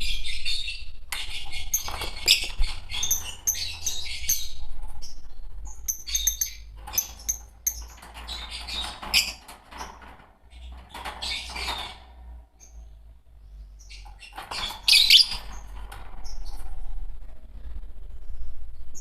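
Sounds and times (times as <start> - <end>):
lovebirds chirping and squawking: 0.0 - 19.0.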